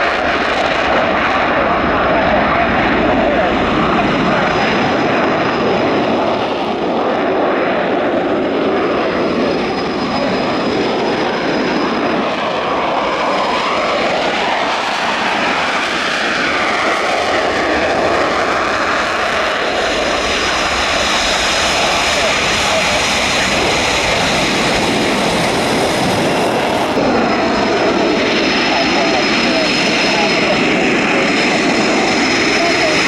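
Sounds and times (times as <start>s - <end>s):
high jet whine: 0.0s - 33.0s
jet engines roaring: 0.0s - 33.0s.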